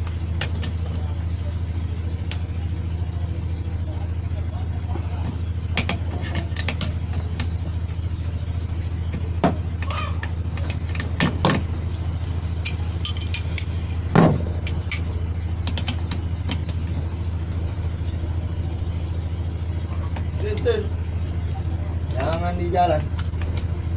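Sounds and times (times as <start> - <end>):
low engine hum: 0.0 - 23.9.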